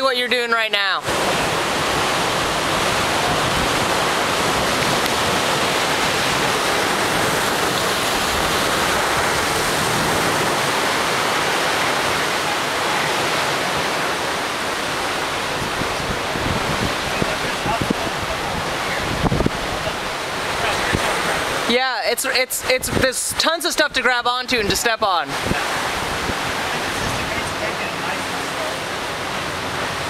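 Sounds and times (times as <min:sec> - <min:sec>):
surf breaking on rocks: 0:01.0 - 0:30.0.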